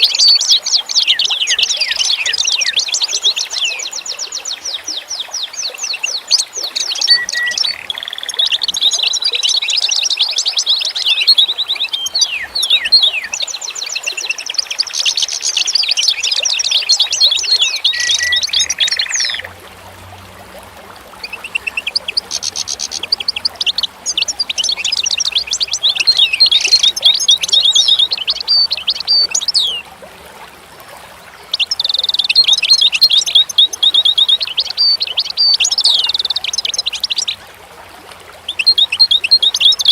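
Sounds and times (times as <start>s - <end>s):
birdsong chirps and trills: 0.0s - 29.9s, 31.2s - 37.5s, 38.4s - 39.9s.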